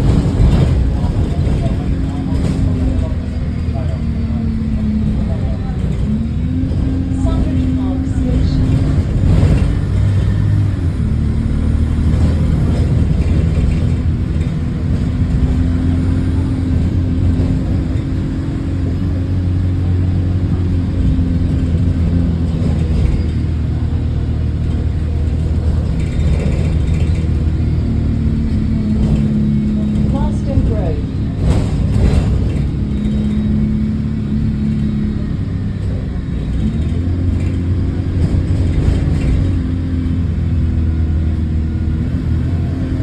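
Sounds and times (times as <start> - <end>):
bus engine droning: 0.0 - 43.0.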